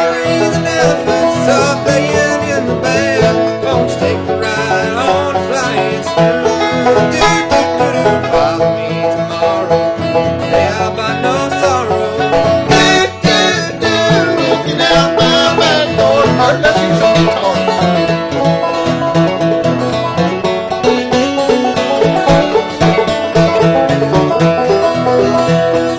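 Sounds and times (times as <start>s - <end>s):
banjo picking: 0.0s - 25.9s
guitar picking: 0.0s - 25.9s.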